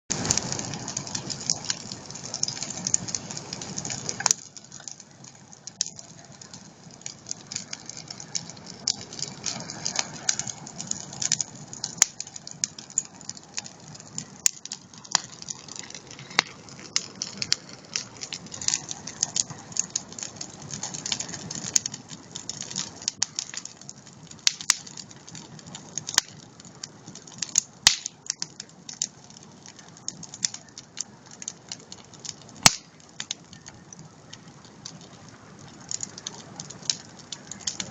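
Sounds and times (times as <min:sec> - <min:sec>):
campfire crackling: 0:00.1 - 0:37.9.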